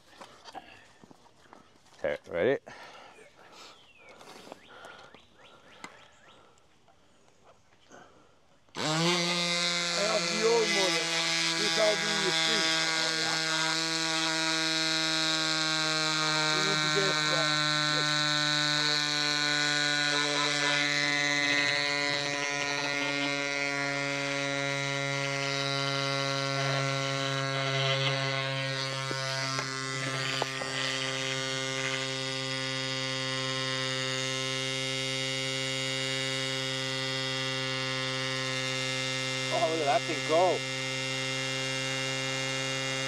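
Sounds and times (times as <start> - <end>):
electric pump motor buzzing: 8.0 - 43.0.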